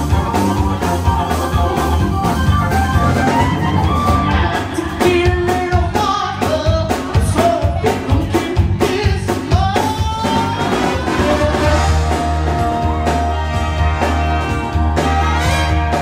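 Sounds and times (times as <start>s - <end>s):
bass line: 0.0s - 16.0s
drum kit: 0.0s - 16.0s
sliding lead melody: 0.0s - 16.0s.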